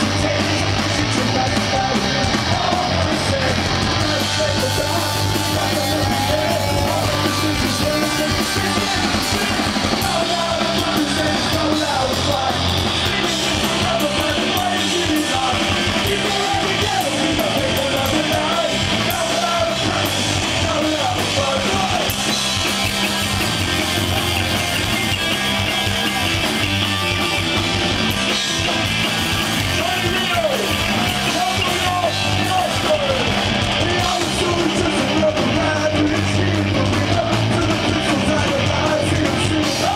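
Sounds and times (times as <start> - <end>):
lead vocal singing: 0.0 - 22.4, 29.6 - 39.9
punk rock band playing live: 0.0 - 39.9.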